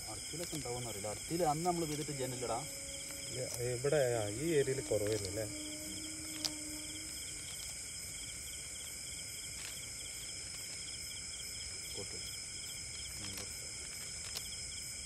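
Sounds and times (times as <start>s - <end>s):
chorus of insects trilling: 0.0s - 15.0s.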